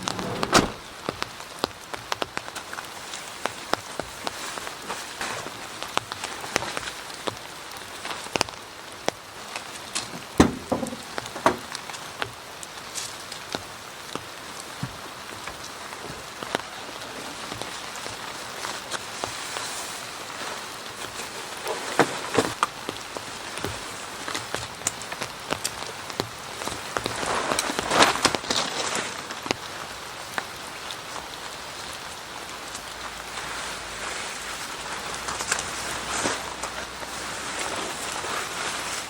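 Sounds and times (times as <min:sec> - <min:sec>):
heavy raindrops tapping: 0:00.0 - 0:39.0
steady rain falling: 0:00.0 - 0:39.0.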